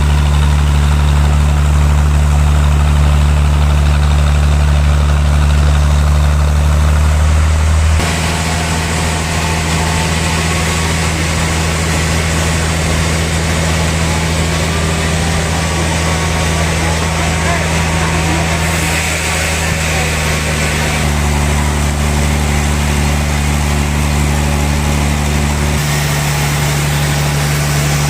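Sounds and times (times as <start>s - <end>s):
sawmill machinery humming: 0.0s - 28.0s.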